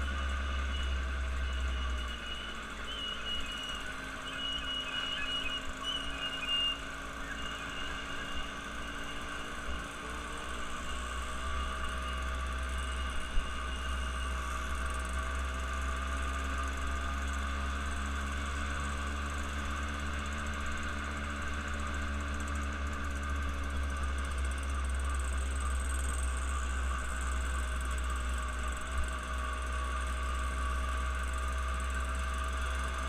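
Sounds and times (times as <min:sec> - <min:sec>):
low hum: 0:00.0 - 0:33.0
vehicle engine and road noise: 0:00.0 - 0:33.0.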